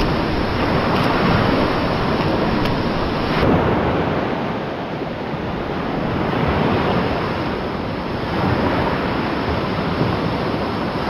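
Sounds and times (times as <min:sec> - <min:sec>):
surf washing on shore: 0:00.0 - 0:11.0.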